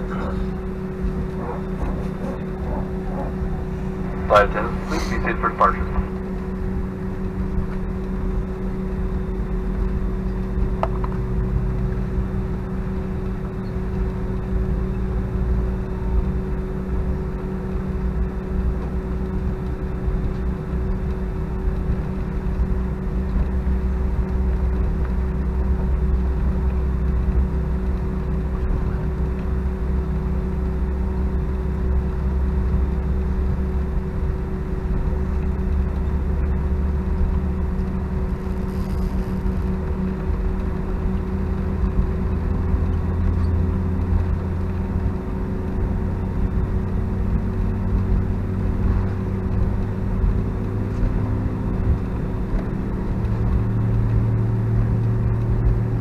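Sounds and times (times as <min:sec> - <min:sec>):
aircraft engines humming: 0:00.0 - 0:56.0
low cabin rumble: 0:00.0 - 0:56.0.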